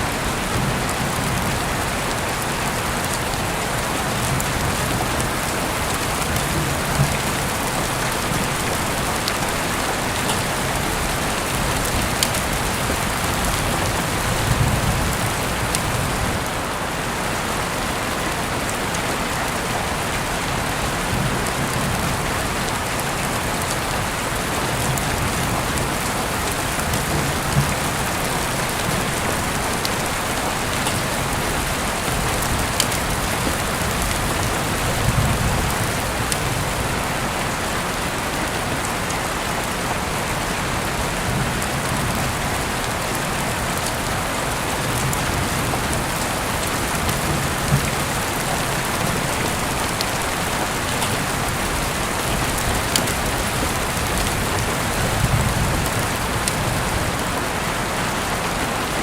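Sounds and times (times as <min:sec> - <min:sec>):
steady rain on hard surface: 0:00.0 - 0:59.0.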